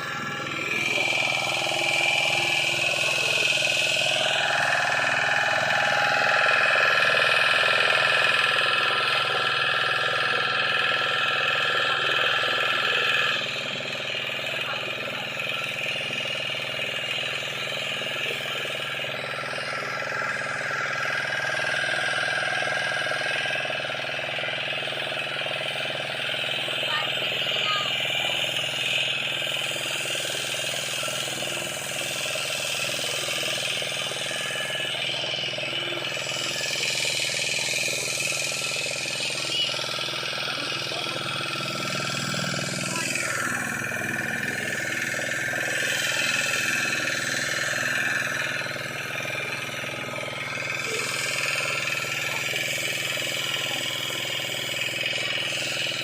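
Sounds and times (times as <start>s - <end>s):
engine humming: 0.0s - 56.0s
faint voices: 0.0s - 56.0s.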